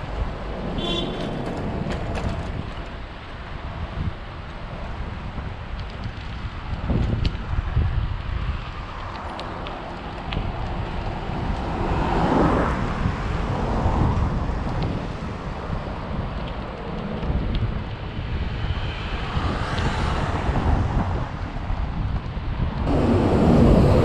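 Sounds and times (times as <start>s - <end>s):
rushing road noise: 0.0s - 24.0s
wind buffeting microphone: 0.0s - 24.0s.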